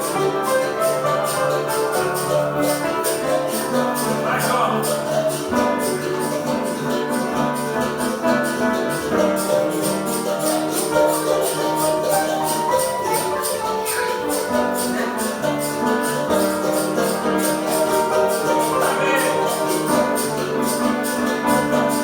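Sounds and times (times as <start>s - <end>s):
basket rattles shaken: 0.0s - 22.0s
berimbau notes: 0.0s - 22.0s
piano: 0.0s - 22.0s.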